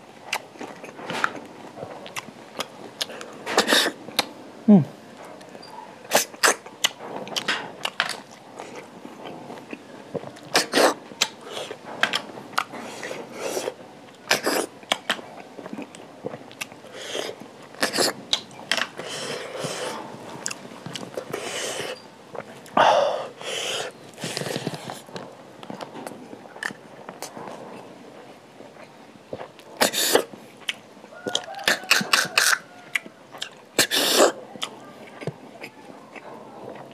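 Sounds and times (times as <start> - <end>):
person chewing with wet smacks: 0.2 - 4.3, 5.4 - 27.9, 28.7 - 36.9.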